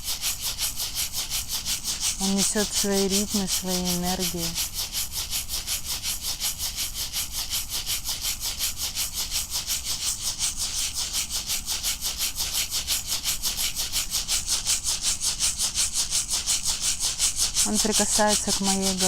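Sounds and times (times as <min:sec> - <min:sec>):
rattle shaken rhythmically: 0:00.0 - 0:19.0.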